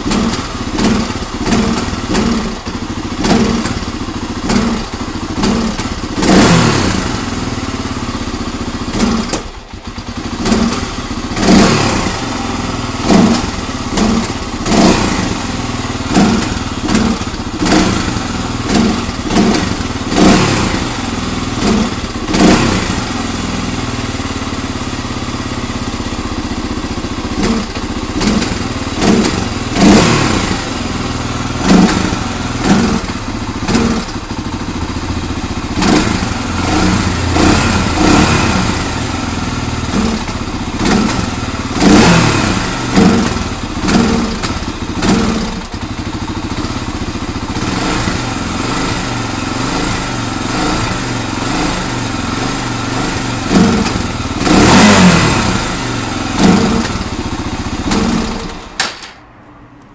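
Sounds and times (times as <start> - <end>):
quad engine idling and revving: 0.0 - 59.2.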